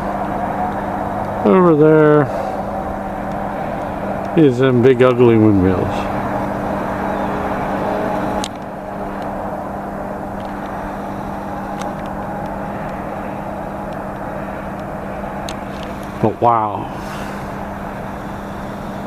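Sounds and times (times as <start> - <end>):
distant road traffic roar: 0.0 - 19.0
low steady hum: 0.0 - 19.0.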